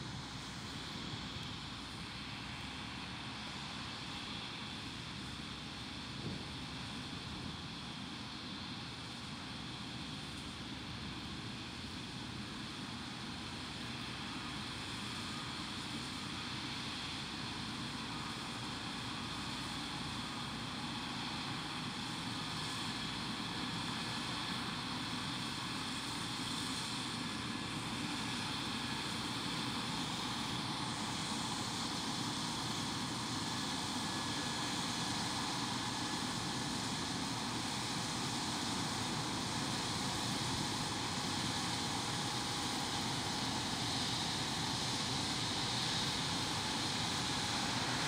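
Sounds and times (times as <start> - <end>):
combine harvester drone: 0.0 - 48.0.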